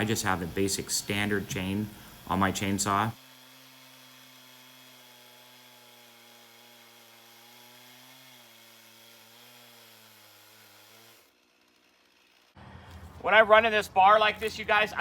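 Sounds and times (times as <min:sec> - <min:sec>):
faint chainsaw cutting under load: 0:00.0 - 0:13.0.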